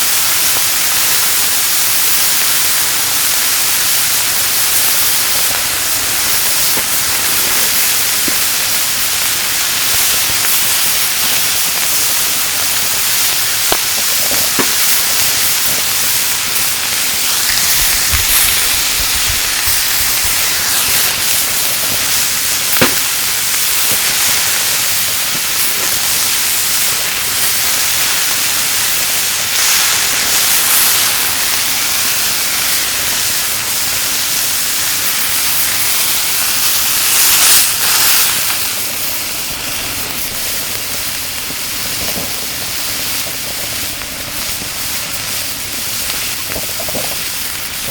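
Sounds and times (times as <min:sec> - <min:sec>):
meat sizzling on a grill: 0:00.0 - 0:47.9.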